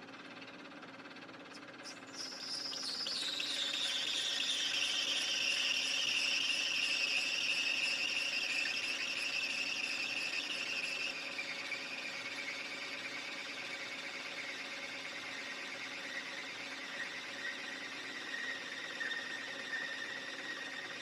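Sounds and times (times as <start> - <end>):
lathe running hum: 1.6 - 21.0
lathe cutting tool squealing: 1.8 - 21.0.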